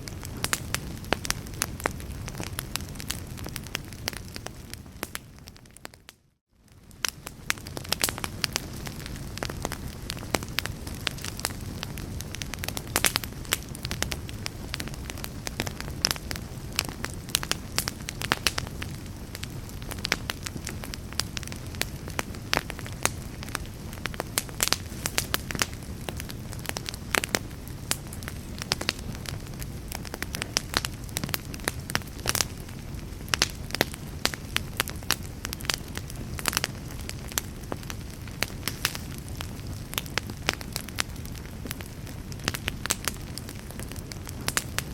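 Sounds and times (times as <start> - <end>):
logs crackling and popping: 0.0 - 44.9
low rumble of flames: 0.0 - 44.9.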